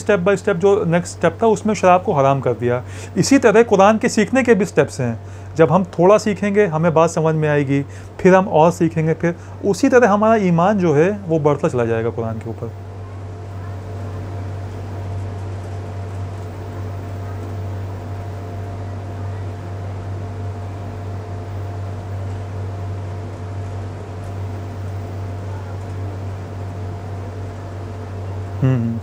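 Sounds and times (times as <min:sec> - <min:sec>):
constant hiss: 0:00.0 - 0:29.0
low mechanical hum: 0:00.0 - 0:29.0.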